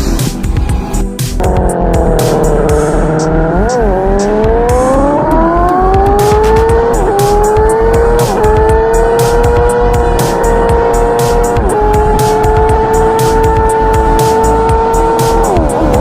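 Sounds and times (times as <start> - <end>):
motorcycle engine revving high: 1.4 - 16.0.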